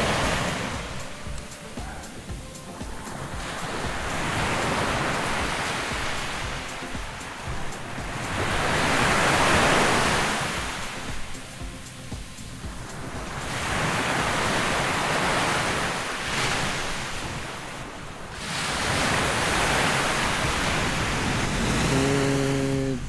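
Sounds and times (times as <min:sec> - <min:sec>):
surf breaking on beach: 0:00.0 - 0:23.0
wind on microphone: 0:00.0 - 0:23.0.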